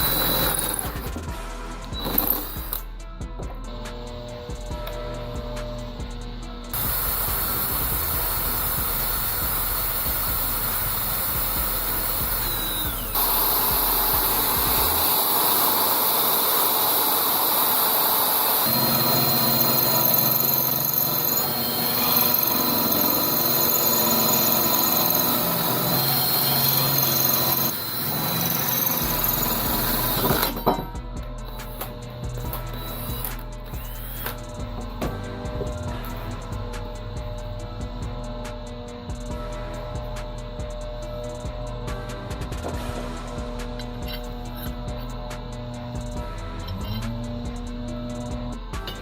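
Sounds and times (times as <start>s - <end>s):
power tool cutting steel: 0.0s - 49.0s.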